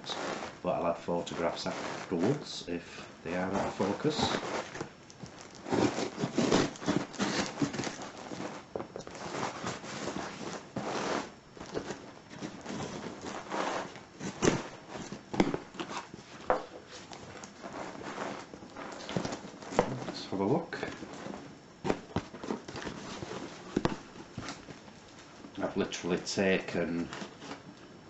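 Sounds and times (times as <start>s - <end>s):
cardboard rustling: 0.0s - 27.7s.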